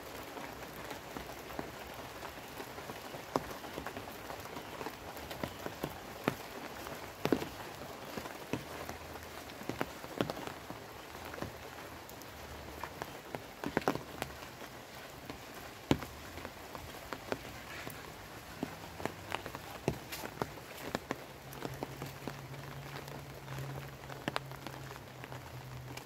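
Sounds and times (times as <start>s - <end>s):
light rain hissing: 0.0s - 26.0s
sharp raindrops landing close: 0.0s - 26.0s.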